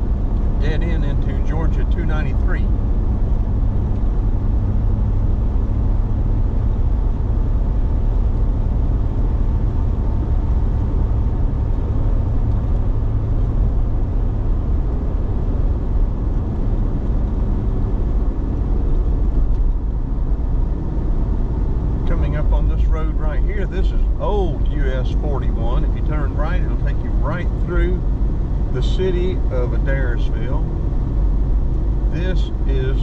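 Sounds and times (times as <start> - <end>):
car engine low rumble: 0.0 - 33.0.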